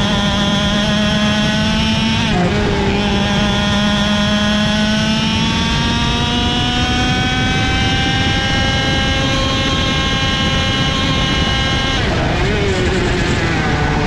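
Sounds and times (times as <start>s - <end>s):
kart engine at high revs: 0.0s - 14.0s
low rumble of wind and tyres: 0.0s - 14.0s.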